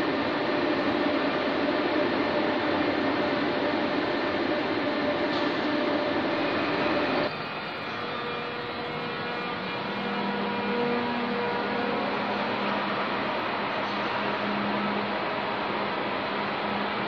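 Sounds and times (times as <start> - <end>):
electric trains humming: 0.0 - 17.0.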